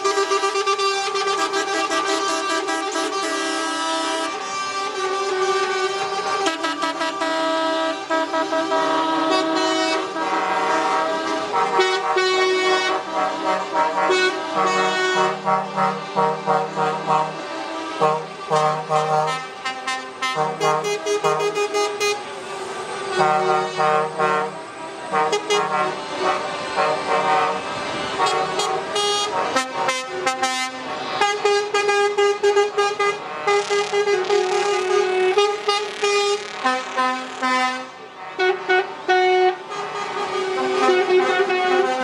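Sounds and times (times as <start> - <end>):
truck air horns: 0.0 - 42.0.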